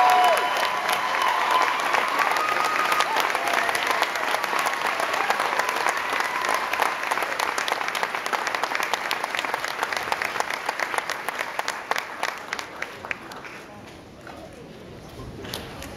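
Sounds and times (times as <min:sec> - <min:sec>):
audience applause: 0:00.0 - 0:13.7.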